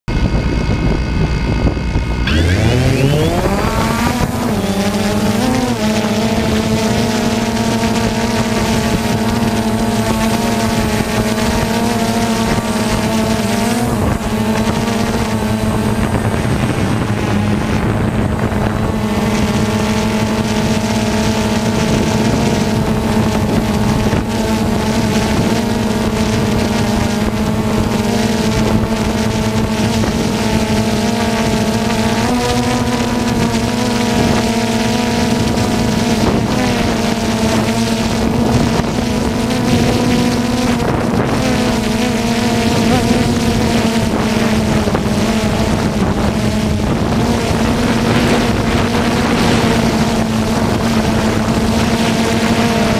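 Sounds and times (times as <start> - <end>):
drone propellers humming: 0.0 - 52.9
wind buffeting microphone: 0.1 - 52.9.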